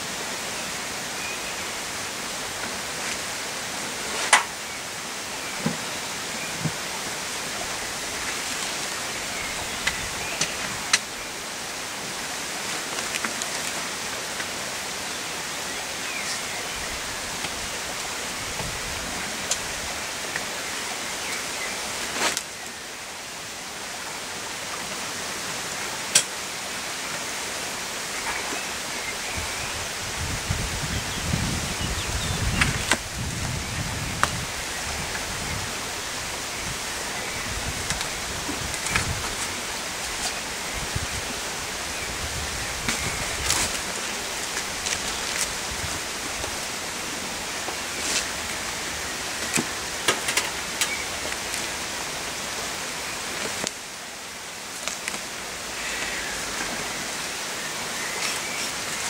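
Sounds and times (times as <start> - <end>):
outdoor hiss: 0.0 - 59.0.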